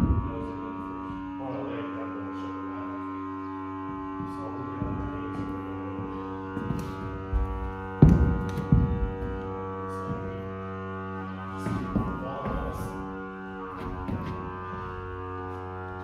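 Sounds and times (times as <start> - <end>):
droning chord music: 0.0 - 16.0.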